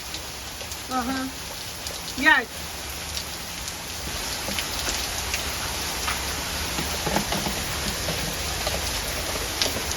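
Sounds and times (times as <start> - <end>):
steady rain falling: 0.0 - 9.9.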